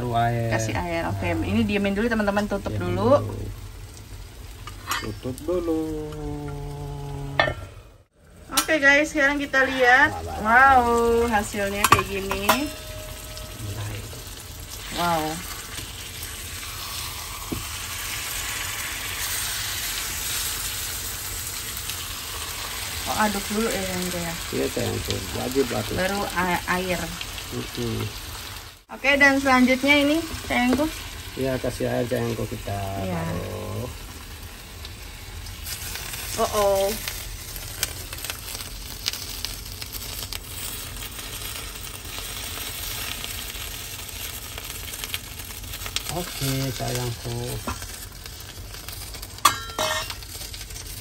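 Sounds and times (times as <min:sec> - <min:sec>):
curry sizzling in a frying pan: 0:00.0 - 0:51.0.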